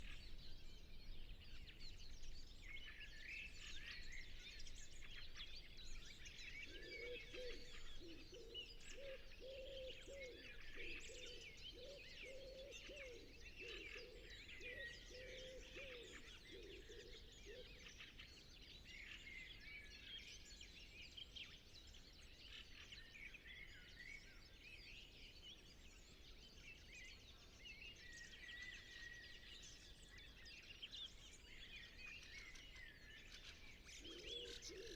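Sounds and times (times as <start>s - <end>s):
small songbirds chirping: 0.0s - 34.9s.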